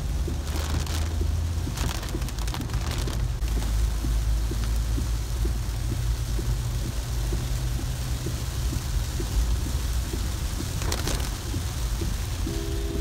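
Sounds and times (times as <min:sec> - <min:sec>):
car engine and tyres rumbling: 0:00.0 - 0:13.0
rain hitting windscreen and roof: 0:00.0 - 0:13.0.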